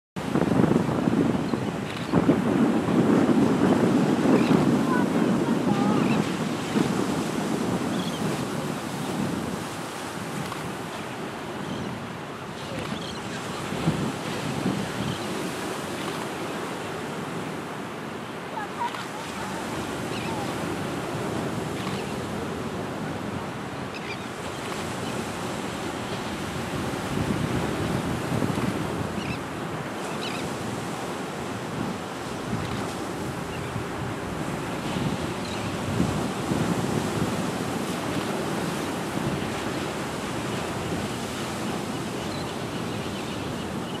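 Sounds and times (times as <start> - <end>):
ocean surf washing: 0.2 - 44.0.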